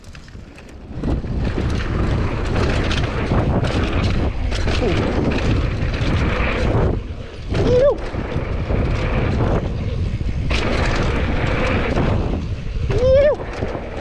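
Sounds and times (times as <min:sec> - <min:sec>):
mountain bike rattling over trail: 0:00.0 - 0:14.0
wind buffeting microphone: 0:00.0 - 0:14.0.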